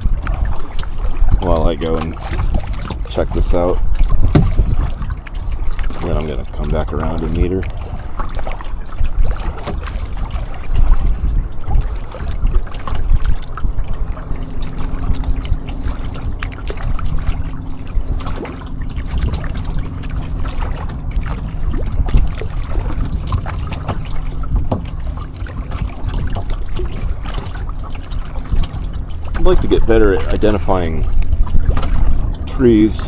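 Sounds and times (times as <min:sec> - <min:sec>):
heavy low rumble: 0:00.0 - 0:33.0
paddle strokes in water: 0:00.0 - 0:33.0
water dripping off paddle: 0:00.0 - 0:33.0.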